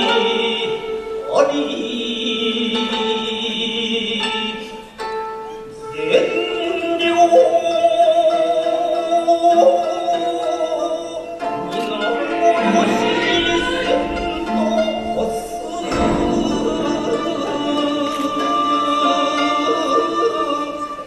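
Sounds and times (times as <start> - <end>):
solo voice chanting: 0.0 - 5.0, 5.8 - 21.0.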